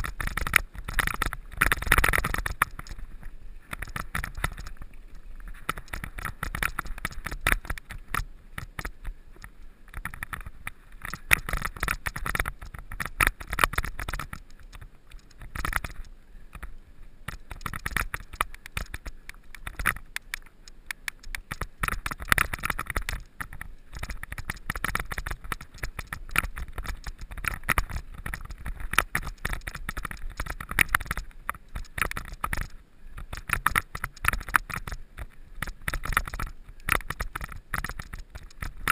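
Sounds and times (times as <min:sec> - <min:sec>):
bike rattling: 0:00.0 - 0:38.9.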